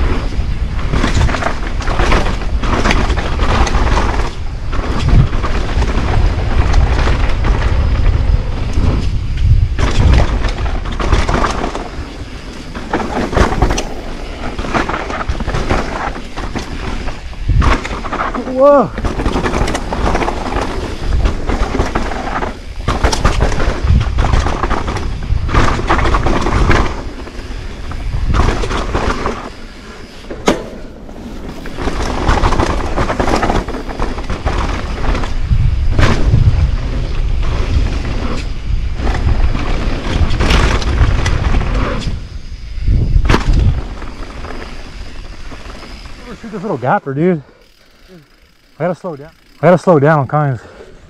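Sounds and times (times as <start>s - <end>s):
wind buffeting microphone: 0.0s - 46.9s
bike knocking and rattling: 0.0s - 50.6s
tyres on packed dirt: 0.0s - 51.0s.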